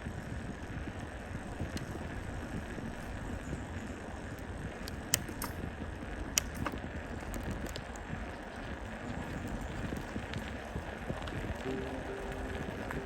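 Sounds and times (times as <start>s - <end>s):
bicycle rolling: 0.0s - 13.0s
wind noise: 0.0s - 13.0s.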